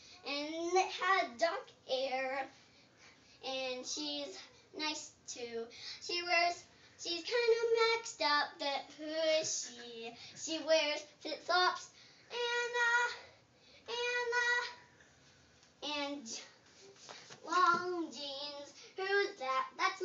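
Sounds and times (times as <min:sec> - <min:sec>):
girl singing unaccompanied: 0:00.0 - 0:02.6, 0:03.4 - 0:14.9, 0:15.8 - 0:16.6, 0:17.4 - 0:20.0.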